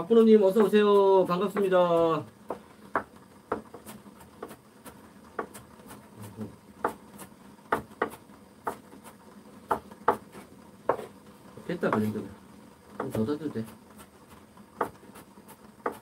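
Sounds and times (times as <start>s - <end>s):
knife chopping on wooden board: 0.1s - 11.2s, 13.0s - 16.0s.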